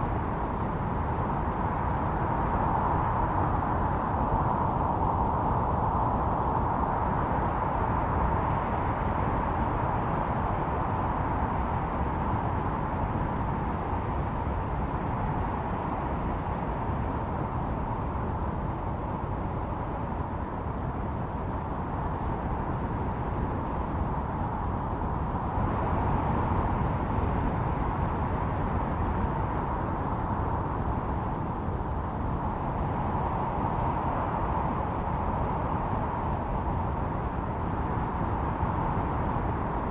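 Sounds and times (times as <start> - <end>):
wind howling and whistling: 0.0 - 39.9.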